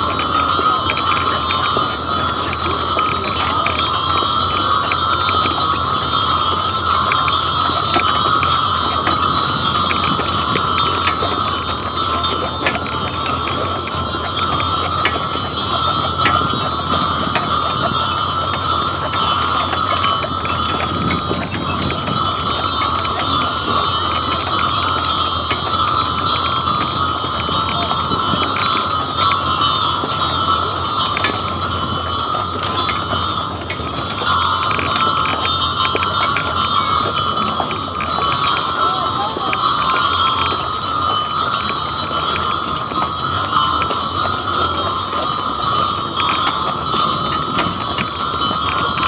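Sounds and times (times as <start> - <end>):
harness bells jingling: 0.0 - 49.0
wagon rumbling on snow: 0.0 - 49.0.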